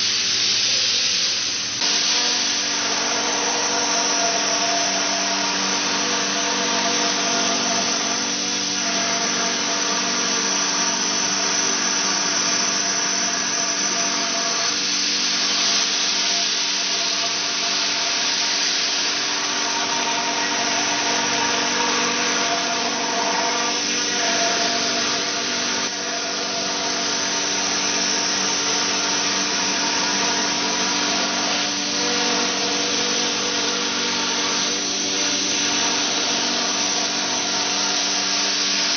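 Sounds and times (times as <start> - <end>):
machine whine over hiss: 0.0 - 38.9.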